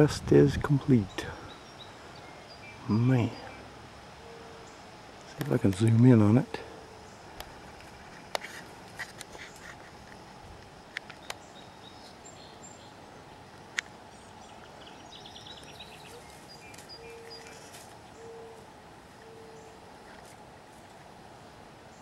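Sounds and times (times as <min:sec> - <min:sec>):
steady low hiss: 0:00.0 - 0:22.0
wild birds chirping: 0:00.0 - 0:22.0.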